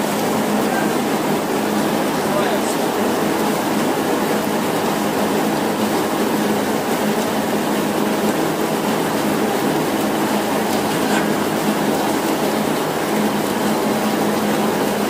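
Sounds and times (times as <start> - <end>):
deck machinery humming: 0.0 - 15.0
fish sliding wet rush: 0.0 - 15.0.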